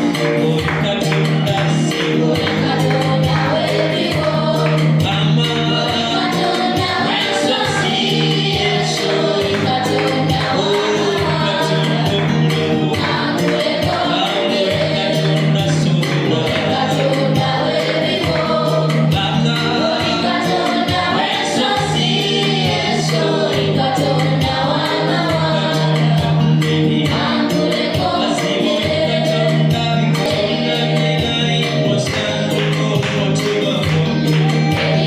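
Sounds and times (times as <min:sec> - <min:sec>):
gospel choir singing: 0:00.0 - 0:35.0.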